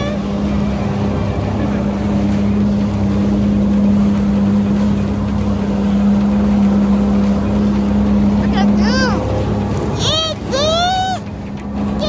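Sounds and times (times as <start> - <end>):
boat engine running: 0.0 - 12.0
wind and water noise: 0.0 - 12.0.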